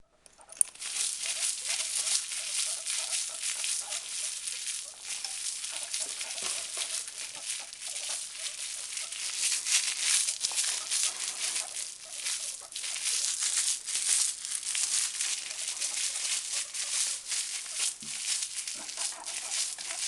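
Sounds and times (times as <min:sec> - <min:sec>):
guinea pigs wheeking and squeaking: 0:00.0 - 0:20.0
plastic bag rustling: 0:00.0 - 0:20.0.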